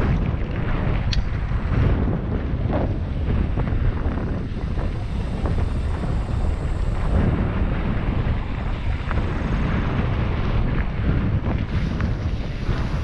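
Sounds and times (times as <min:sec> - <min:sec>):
bike rumble: 0:00.0 - 0:13.0
wind buffeting microphone: 0:00.0 - 0:13.0.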